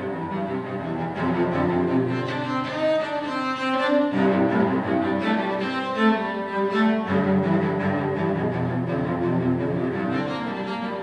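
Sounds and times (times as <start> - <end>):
bowed cello notes: 0.0 - 11.0.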